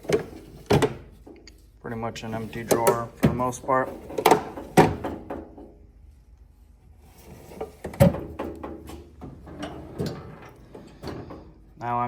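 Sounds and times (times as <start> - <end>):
metal drawers sliding and clunking: 0.0 - 5.8, 7.0 - 11.8.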